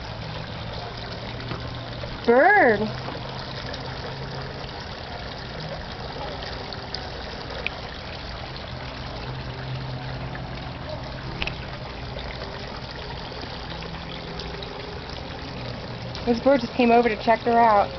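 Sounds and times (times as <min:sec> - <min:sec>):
low steady hum: 0:00.0 - 0:17.9
water trickling: 0:00.0 - 0:17.9.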